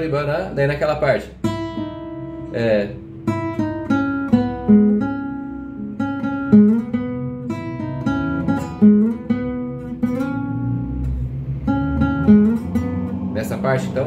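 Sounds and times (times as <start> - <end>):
classical guitar fingerstyle: 0.0 - 14.0.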